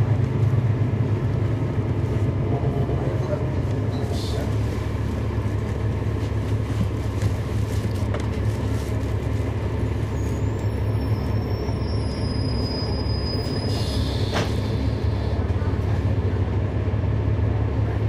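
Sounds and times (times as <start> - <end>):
bus diesel engine drone: 0.0 - 18.0.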